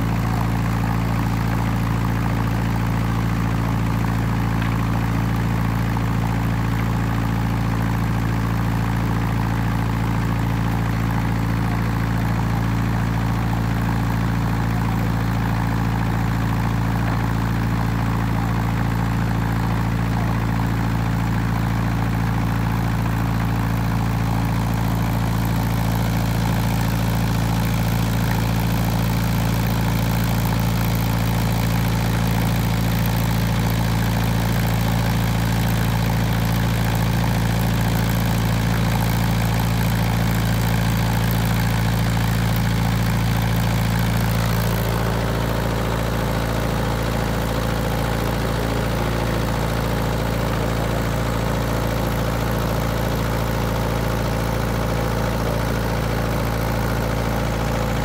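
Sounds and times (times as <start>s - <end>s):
heavy engine idling: 0.0s - 58.0s.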